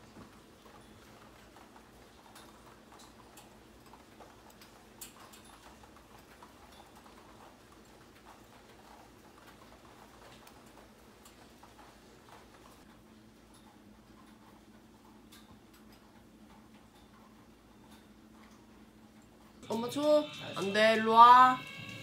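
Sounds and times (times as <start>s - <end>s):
raindrops tapping: 0.0s - 20.2s
light rain hiss: 0.0s - 22.0s.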